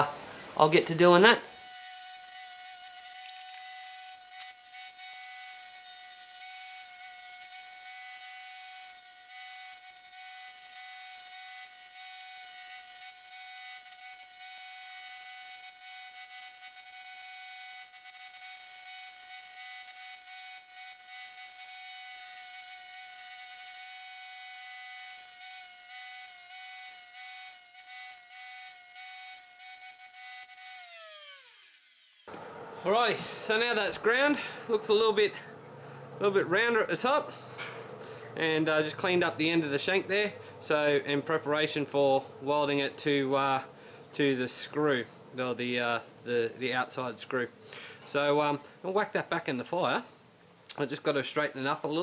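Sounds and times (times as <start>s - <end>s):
power grinder whining: 0.9s - 46.4s.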